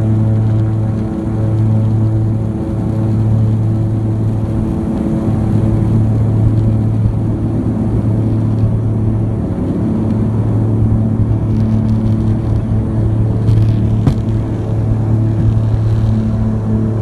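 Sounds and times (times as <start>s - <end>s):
small plane engines droning: 0.0s - 17.0s.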